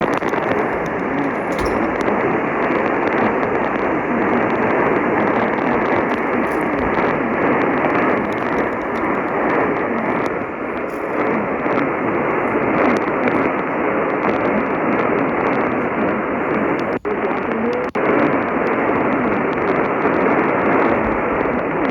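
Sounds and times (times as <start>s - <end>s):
faint crackles: 0.0s - 21.9s
radio static hiss: 0.0s - 21.9s.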